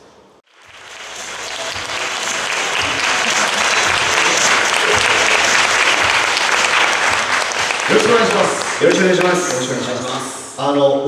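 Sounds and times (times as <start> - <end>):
audience applauding: 0.5 - 10.3.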